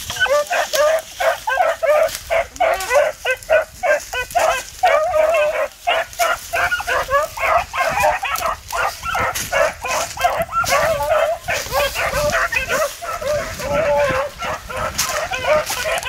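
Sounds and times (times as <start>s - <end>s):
hounds baying: 0.0s - 16.0s.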